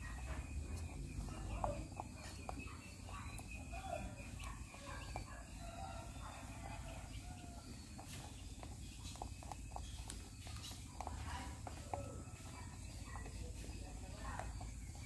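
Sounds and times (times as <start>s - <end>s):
rabbits crunching pellets: 0.0s - 15.0s
steady low hum: 0.0s - 15.0s.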